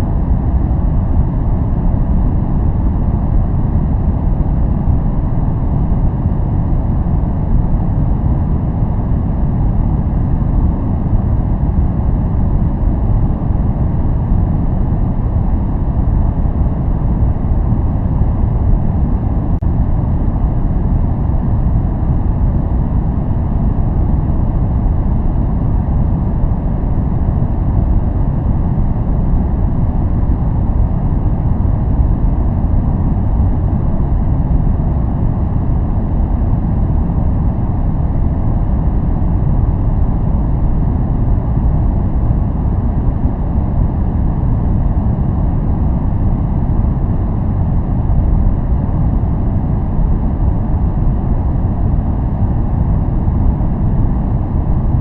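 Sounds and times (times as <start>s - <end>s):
deep steady noise rumble: 0.0s - 55.0s.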